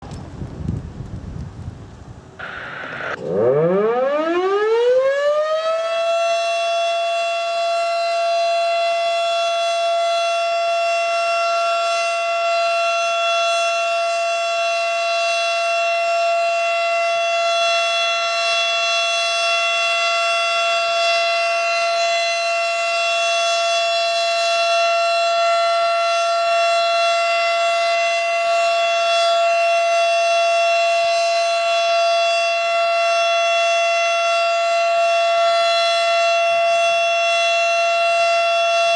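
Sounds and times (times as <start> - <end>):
warning siren wailing: 2.4 - 38.9.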